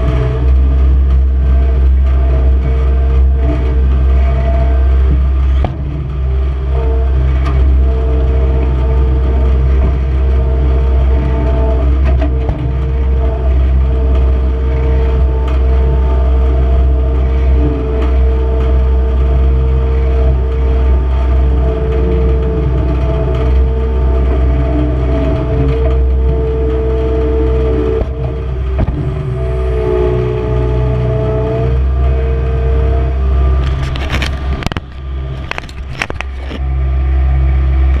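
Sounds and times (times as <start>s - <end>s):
skid steer engine running: 0.0s - 38.0s.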